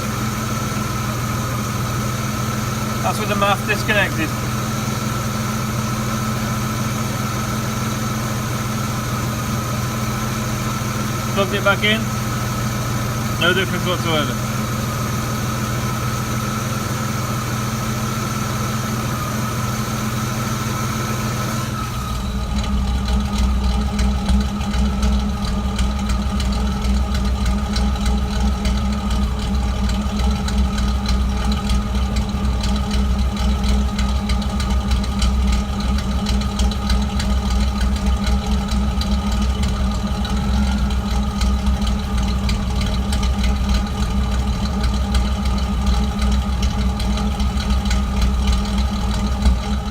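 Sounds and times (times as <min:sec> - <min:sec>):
car engine idling with misfire: 0:00.0 - 0:49.9.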